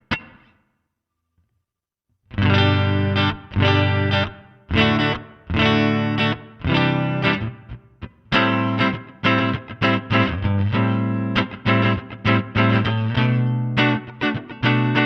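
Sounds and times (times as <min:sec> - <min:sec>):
distorted electric guitar chords: 0:02.3 - 0:15.0.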